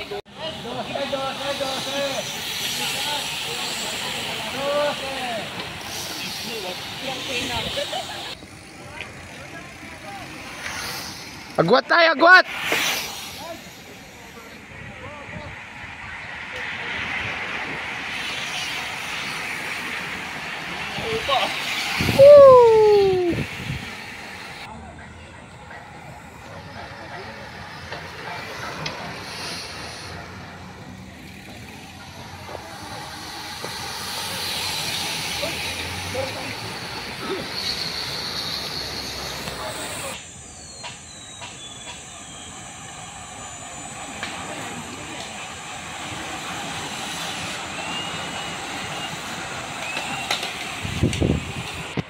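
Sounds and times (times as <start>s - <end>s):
bicycle tyre hiss: 0.0s - 24.7s, 26.0s - 52.0s.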